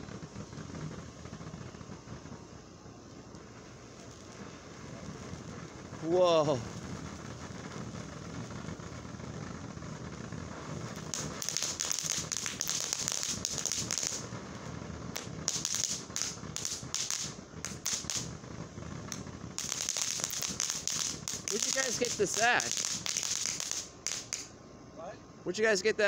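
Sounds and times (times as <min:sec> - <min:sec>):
firework crackling pops: 0:00.0 - 0:24.6
firework hissing: 0:00.0 - 0:26.0.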